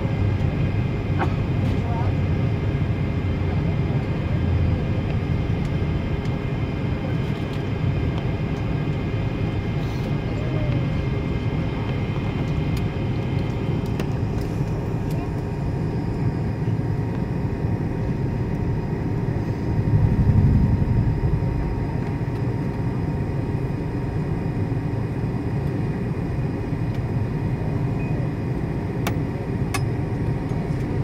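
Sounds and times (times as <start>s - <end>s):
airliner engines rumbling: 0.0s - 31.0s
faint steady whines: 0.0s - 31.0s.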